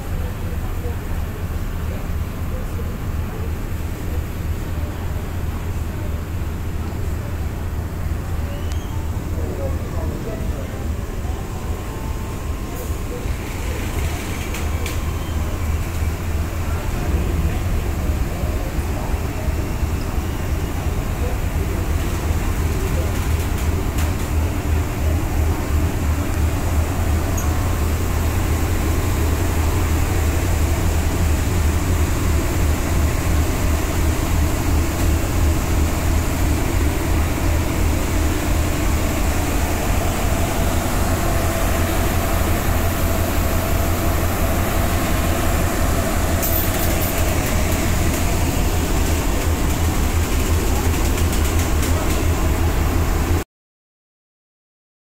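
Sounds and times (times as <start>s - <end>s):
ferry engine low rumble: 0.0s - 53.4s.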